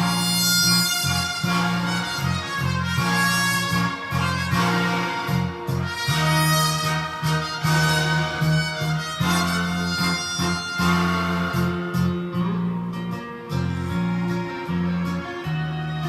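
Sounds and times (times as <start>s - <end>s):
instrumental music with guitar and strings: 0.0s - 16.0s.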